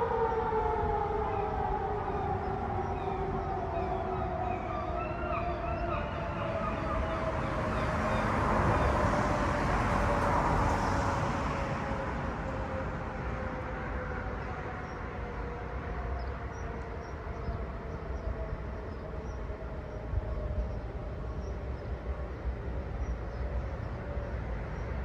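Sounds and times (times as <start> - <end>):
industrial warning siren: 0.0 - 25.0.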